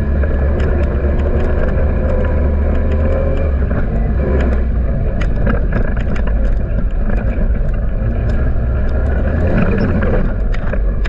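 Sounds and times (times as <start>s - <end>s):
atv engine running: 0.0s - 11.0s
sharp clicks and rattles: 0.0s - 11.0s.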